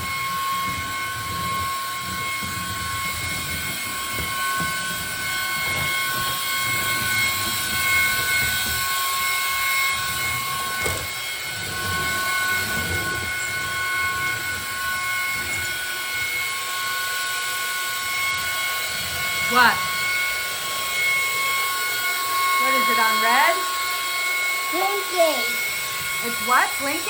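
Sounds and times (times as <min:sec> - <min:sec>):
stick vacuum motor whine: 0:00.0 - 0:27.0.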